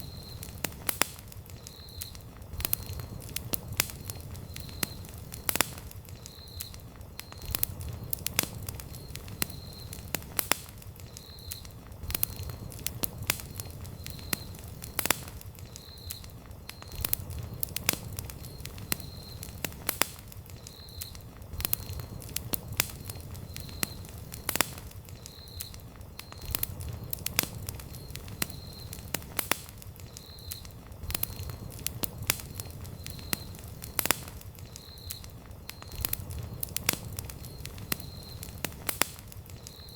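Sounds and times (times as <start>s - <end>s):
campfire crackling and popping: 0.0s - 39.9s
rush of burning flames: 0.0s - 39.9s.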